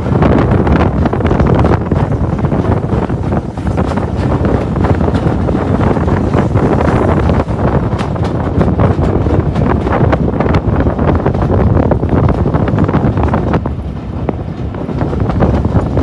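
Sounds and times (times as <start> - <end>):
train rumbling on track: 0.0 - 16.0
wind buffeting microphone: 0.0 - 16.0.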